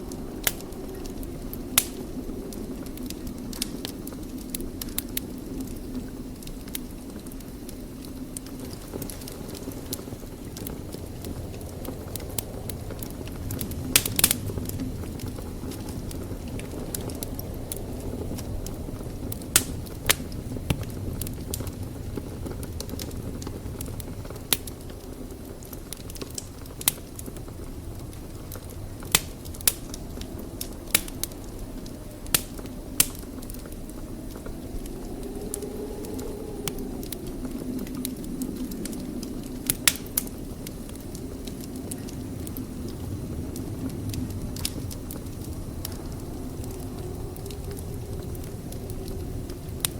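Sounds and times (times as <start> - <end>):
fire flames rumbling: 0.0 - 49.9
wood fire crackling and popping: 0.0 - 49.9.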